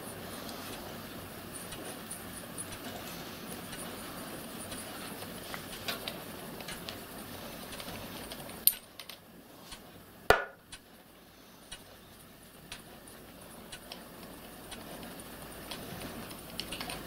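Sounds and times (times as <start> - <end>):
steady gas hiss: 0.0 - 17.0.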